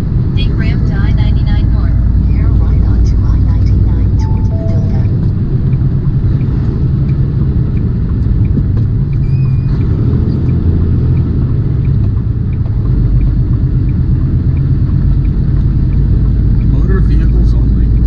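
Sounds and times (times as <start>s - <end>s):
truck diesel engine and road noise: 0.0s - 18.0s
faint regular ticking: 0.9s - 18.0s.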